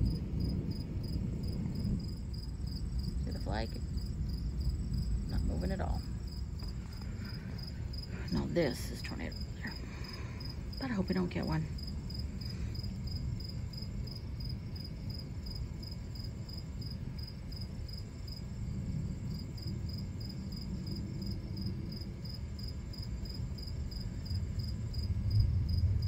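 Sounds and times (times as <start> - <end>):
crickets chirping: 0.0 - 26.0
distant thunder rumbling: 0.0 - 26.0.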